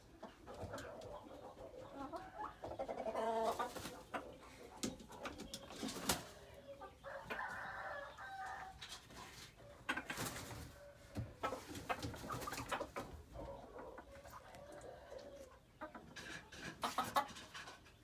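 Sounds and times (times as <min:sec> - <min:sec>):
jungle fowl clucking and calling: 0:00.0 - 0:18.0.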